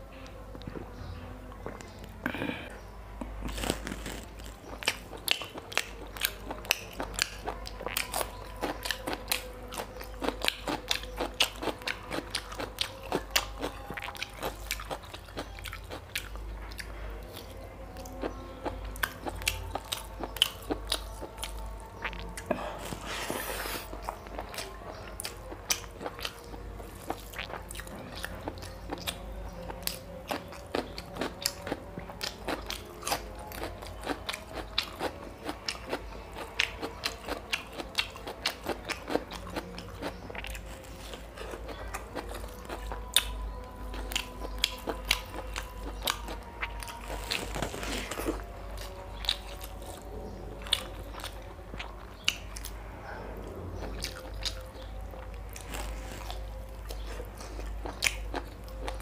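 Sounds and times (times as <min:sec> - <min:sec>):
wet chewing and lip-smacking: 0:03.5 - 0:52.8, 0:53.7 - 0:59.0.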